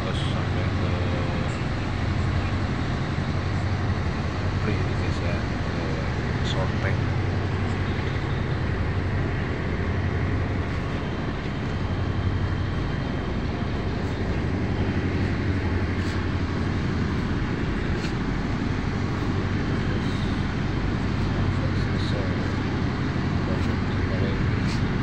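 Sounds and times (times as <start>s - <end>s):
heavy machinery droning: 0.0s - 25.0s.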